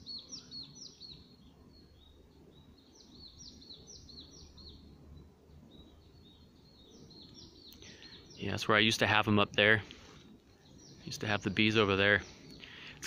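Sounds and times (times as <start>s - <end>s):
low background noise: 0.0s - 13.0s
small songbird singing: 0.0s - 13.0s.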